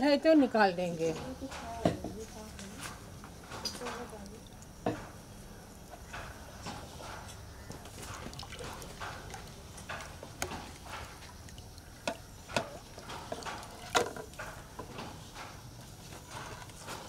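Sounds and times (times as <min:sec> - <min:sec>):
yarn worked in dye vat: 0:00.0 - 0:17.0.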